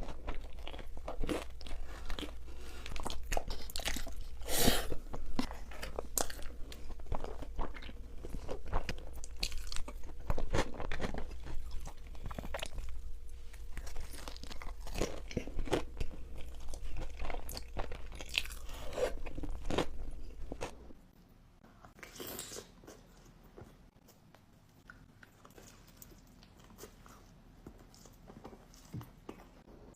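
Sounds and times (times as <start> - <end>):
crunchy chewing of food: 0.0 - 21.0, 24.8 - 29.7.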